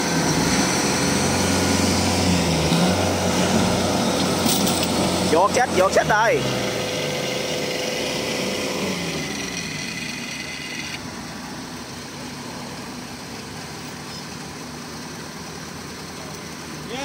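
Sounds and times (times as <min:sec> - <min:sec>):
heavy machine engines running: 0:00.0 - 0:17.0.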